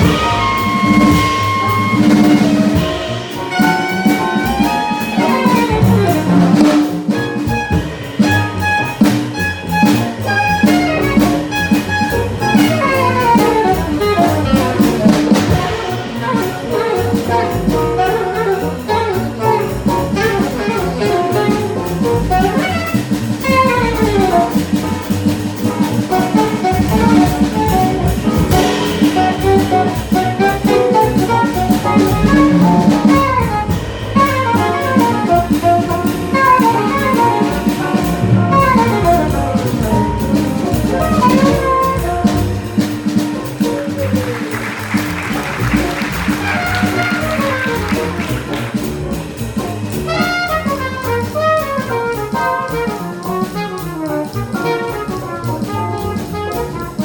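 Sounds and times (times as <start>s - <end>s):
drum kit and bass: 0.0s - 57.0s
saxophone quick running notes: 0.0s - 57.0s.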